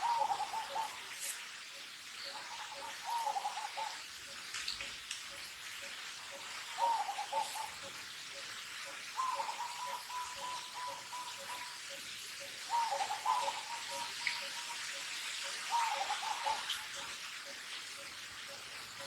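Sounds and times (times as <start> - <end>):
birds warbling: 0.0 - 19.0
steady hiss: 0.0 - 19.0.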